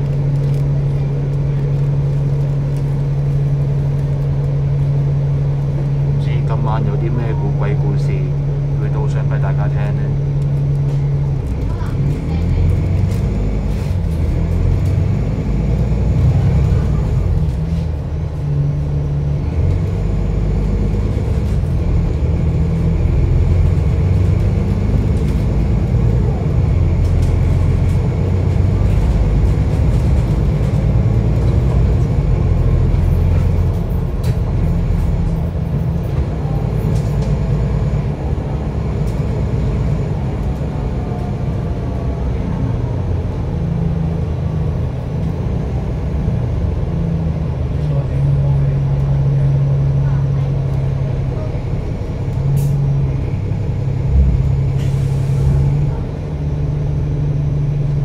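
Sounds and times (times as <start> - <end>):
bus engine drone: 0.0 - 58.0
road rumble: 0.0 - 58.0.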